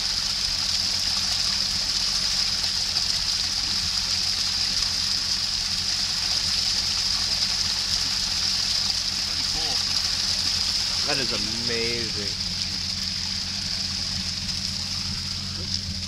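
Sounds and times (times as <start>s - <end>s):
low steady hum: 0.0s - 16.0s
water running over rocks: 0.0s - 16.0s.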